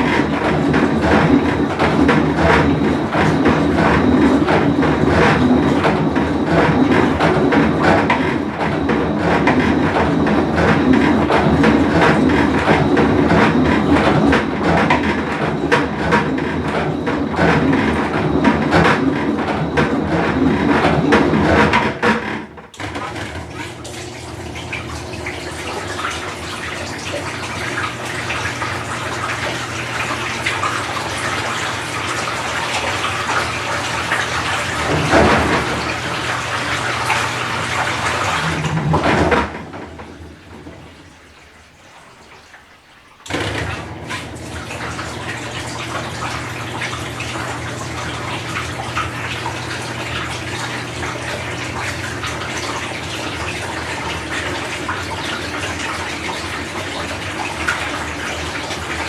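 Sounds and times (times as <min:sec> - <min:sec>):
washing machine low hum: 0:00.0 - 0:59.0
water pouring into washer tub: 0:00.0 - 0:59.0.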